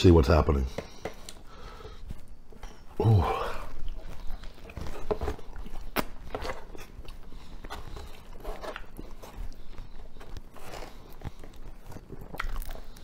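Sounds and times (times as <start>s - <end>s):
person chewing pizza: 0.8s - 13.0s.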